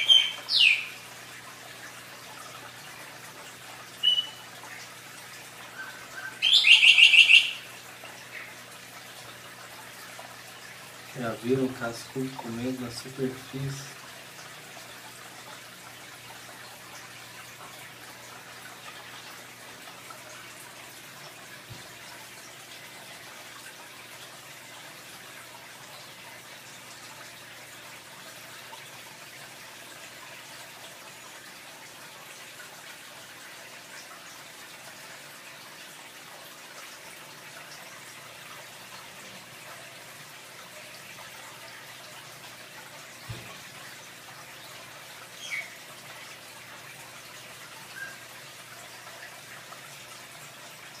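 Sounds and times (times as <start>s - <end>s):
aquarium water running and splashing: 0.0s - 51.0s.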